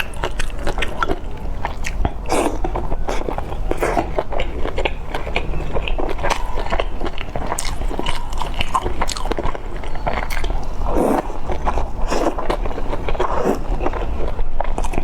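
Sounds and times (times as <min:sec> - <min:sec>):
close chewing with wet mouth clicks: 0:00.0 - 0:15.0.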